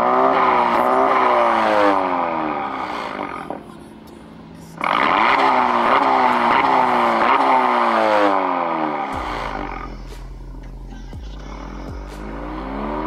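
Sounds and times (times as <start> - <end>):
car exhaust revving and idling: 0.0 - 13.0.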